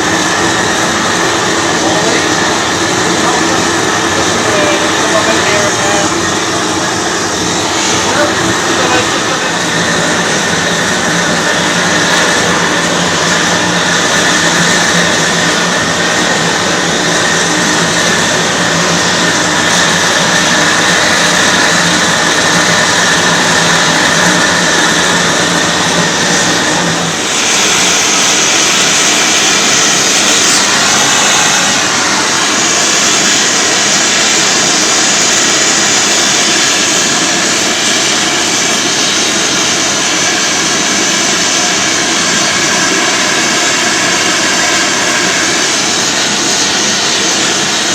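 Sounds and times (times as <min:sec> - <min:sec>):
gas torch flame roaring: 0:00.0 - 0:47.9.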